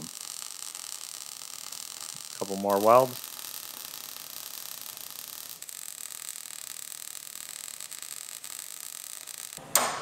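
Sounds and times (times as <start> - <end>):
welding arc crackling hiss: 0.0 - 9.8.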